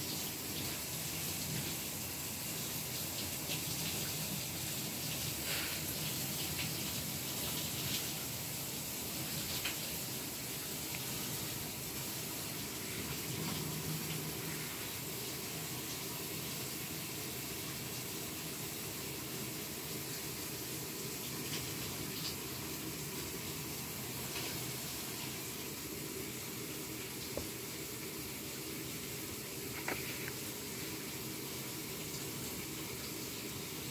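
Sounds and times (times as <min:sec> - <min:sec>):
steady hiss: 0:00.0 - 0:33.9.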